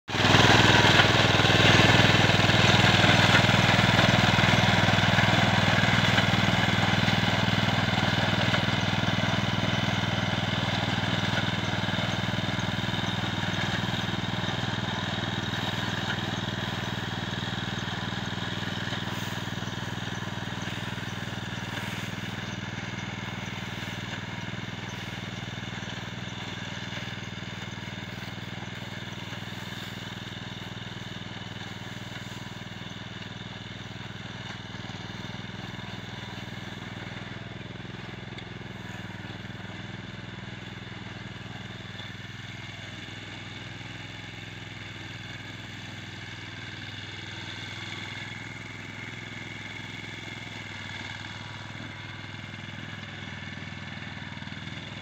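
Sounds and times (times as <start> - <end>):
reaper engine running: 0.1 - 55.0.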